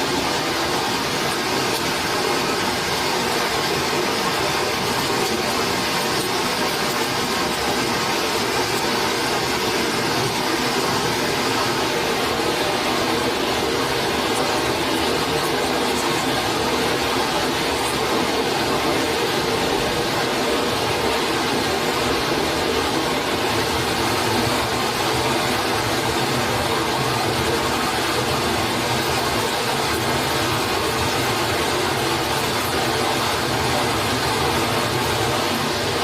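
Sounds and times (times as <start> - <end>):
stream running water: 0.0 - 36.0.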